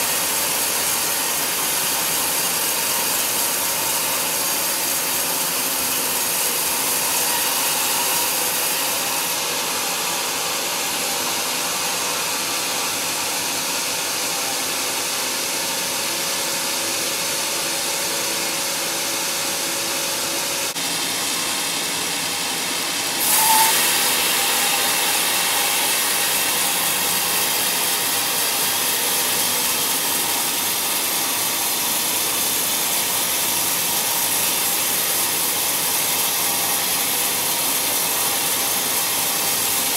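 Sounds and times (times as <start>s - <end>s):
band saw cutting through log: 0.0s - 39.9s.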